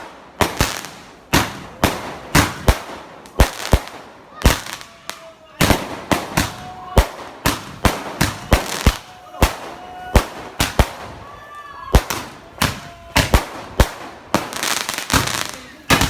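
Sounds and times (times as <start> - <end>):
fireworks banging: 0.0 - 16.0.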